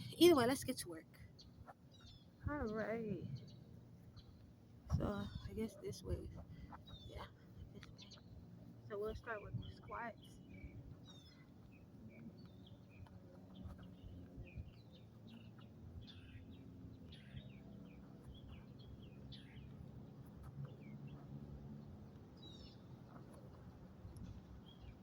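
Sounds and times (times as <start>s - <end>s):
faint birds chirping: 0.0s - 25.0s
low background rumble: 0.0s - 25.0s.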